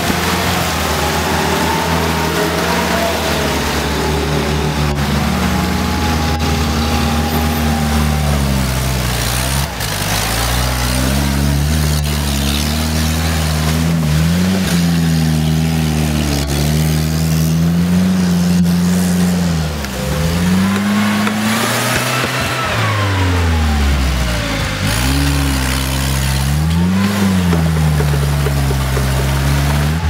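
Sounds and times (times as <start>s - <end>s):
van engine revving under load: 0.0s - 30.0s.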